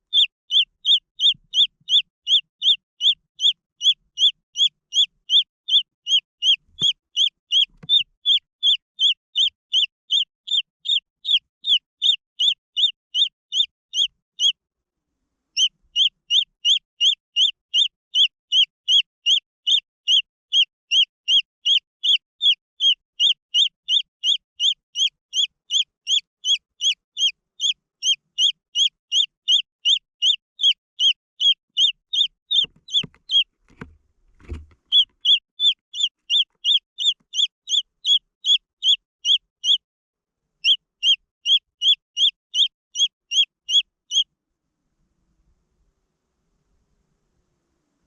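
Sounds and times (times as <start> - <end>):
chick peeping: 0.0 - 14.6, 15.6 - 39.8, 40.6 - 44.2.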